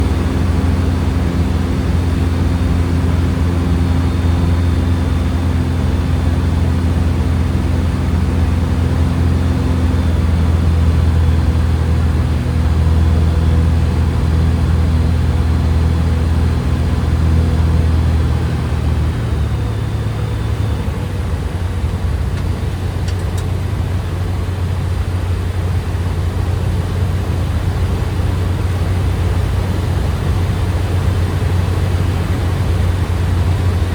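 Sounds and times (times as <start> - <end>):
light aircraft engine and propeller: 0.0 - 33.9.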